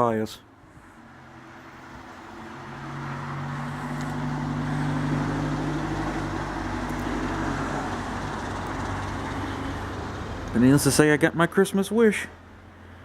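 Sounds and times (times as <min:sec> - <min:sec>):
vehicle engine droning: 0:00.5 - 0:13.0.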